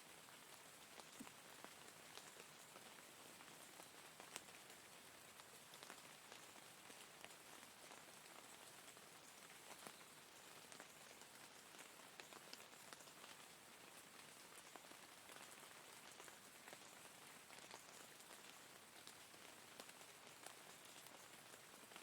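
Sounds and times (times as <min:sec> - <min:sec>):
faint steady rain: 0:00.0 - 0:22.0
raindrops ticking on surface: 0:00.0 - 0:22.0.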